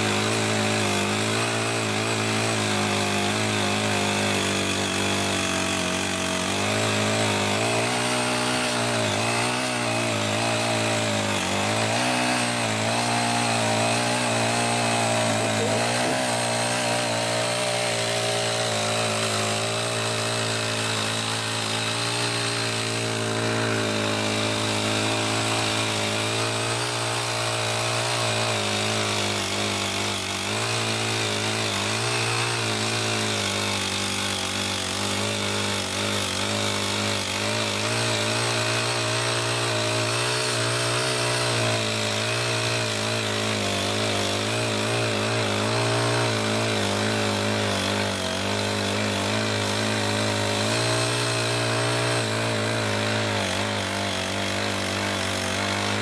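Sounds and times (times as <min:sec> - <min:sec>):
small tiller engine running: 0:00.0 - 0:56.0.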